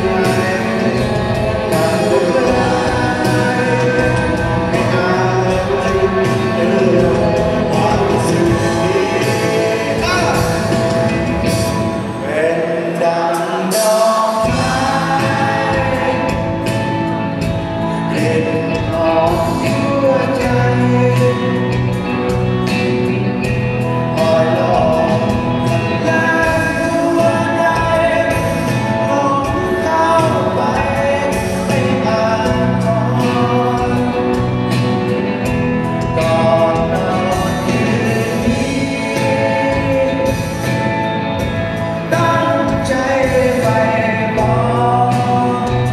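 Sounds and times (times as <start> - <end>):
bass guitar: 0.0 - 45.9
drum kit: 0.0 - 45.9
electric guitars: 0.0 - 45.9
lead vocal singing: 0.0 - 45.9.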